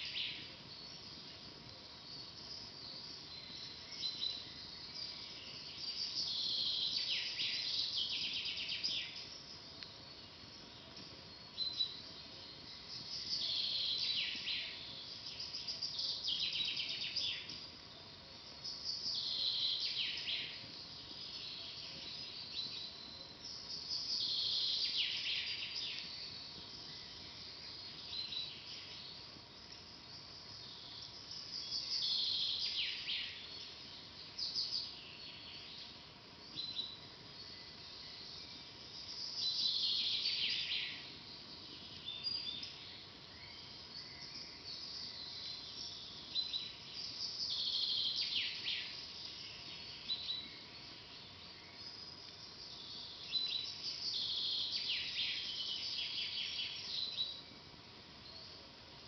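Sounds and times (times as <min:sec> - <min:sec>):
faint outdoor background: 0:00.0 - 0:59.0
songbird singing: 0:00.0 - 0:59.0.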